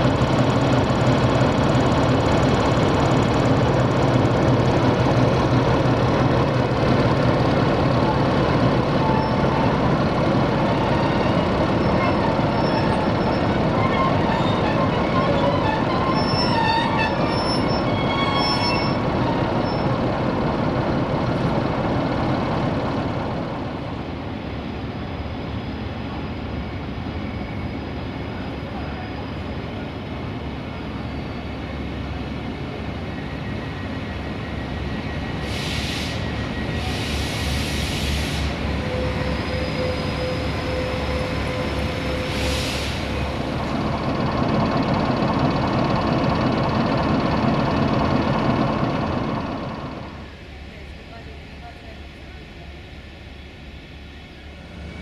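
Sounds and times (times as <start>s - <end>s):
diesel locomotive idling: 0.0s - 24.1s, 34.2s - 55.0s.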